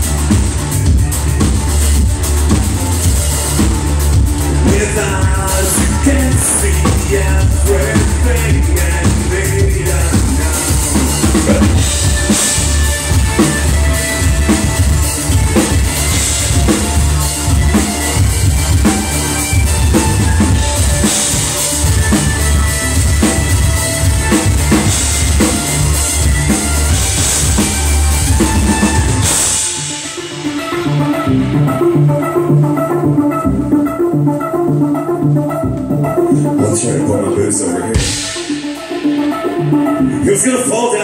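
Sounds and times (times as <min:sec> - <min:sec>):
drum kit beat: 0:00.0 - 0:41.0
electric guitar: 0:00.0 - 0:41.0
heavy bass: 0:00.0 - 0:41.0.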